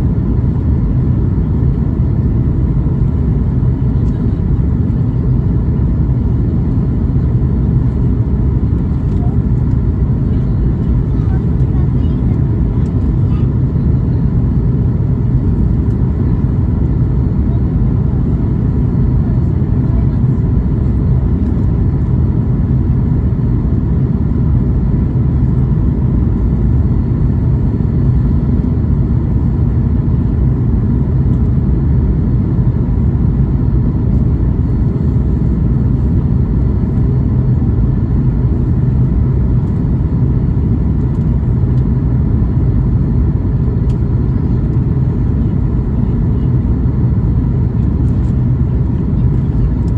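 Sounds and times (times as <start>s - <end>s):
airliner cabin engine roar: 0.0s - 49.9s.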